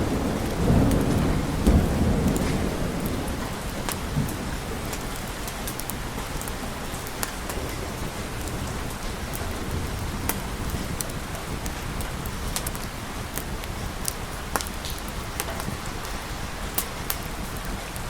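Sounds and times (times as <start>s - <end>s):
low thunder rumble: 0.0s - 18.0s
steady rain hiss: 0.0s - 18.0s.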